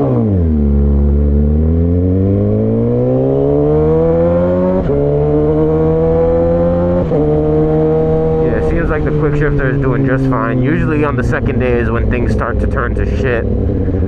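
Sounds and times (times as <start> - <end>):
motorcycle accelerating hard: 0.0 - 14.0.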